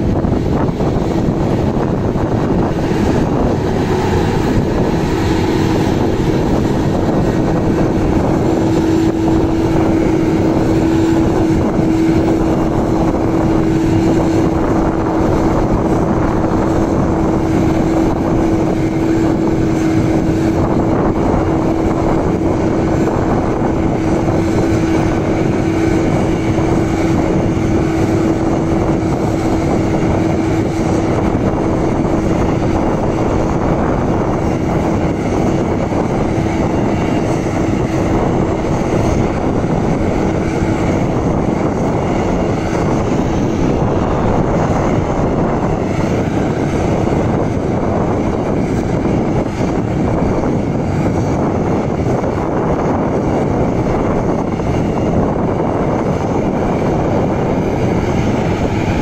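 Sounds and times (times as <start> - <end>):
forage harvester droning: 0.0 - 59.0
steady hum: 0.0 - 59.0.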